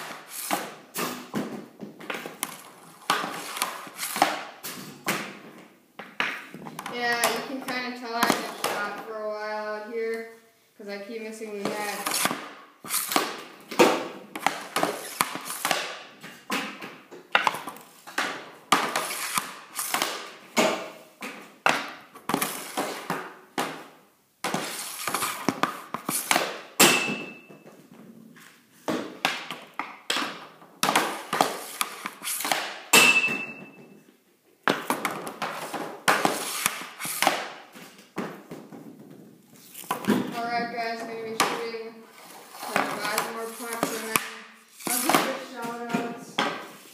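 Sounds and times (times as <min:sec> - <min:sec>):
hockey stick cracking puck: 0:00.0 - 0:09.1, 0:11.6 - 0:27.6, 0:28.8 - 0:33.9, 0:34.6 - 0:39.2, 0:39.8 - 0:46.9
pucks slamming into net and walls: 0:00.0 - 0:10.2, 0:11.3 - 0:46.9.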